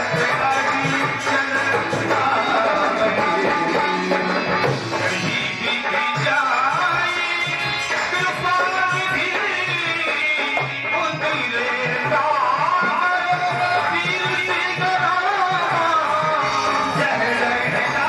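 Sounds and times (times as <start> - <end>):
tabla rhythm: 0.0 - 18.0.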